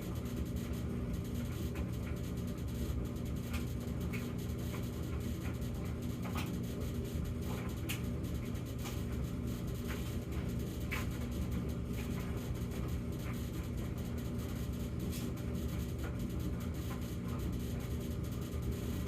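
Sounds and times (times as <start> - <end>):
dryer drum and motor drone: 0.0 - 19.0.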